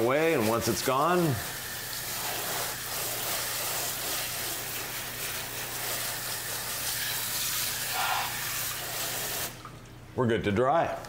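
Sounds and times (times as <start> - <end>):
hose water spraying on engine: 0.0 - 9.6.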